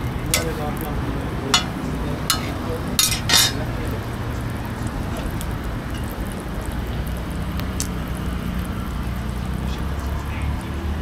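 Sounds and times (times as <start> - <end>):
roti sizzling on griddle: 0.0 - 11.0.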